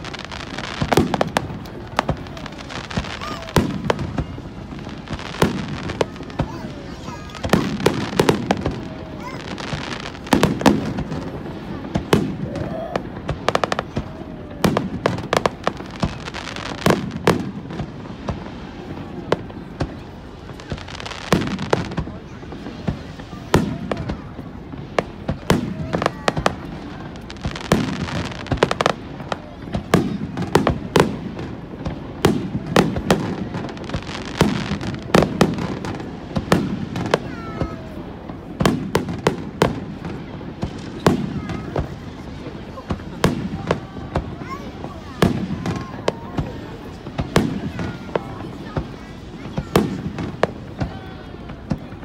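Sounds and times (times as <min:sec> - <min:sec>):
fireworks booming and crackling: 0:00.0 - 0:52.0.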